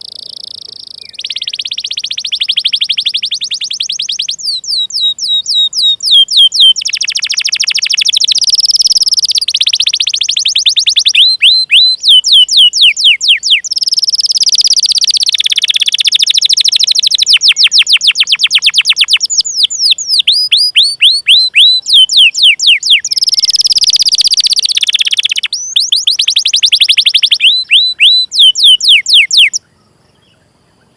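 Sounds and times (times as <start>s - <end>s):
canary singing: 0.0s - 29.7s.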